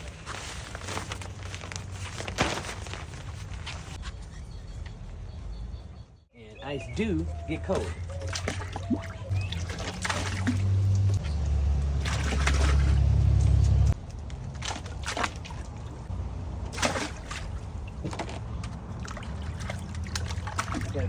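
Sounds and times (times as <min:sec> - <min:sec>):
water sloshing and splashing: 0:00.0 - 0:04.0, 0:07.5 - 0:16.1, 0:16.7 - 0:21.0.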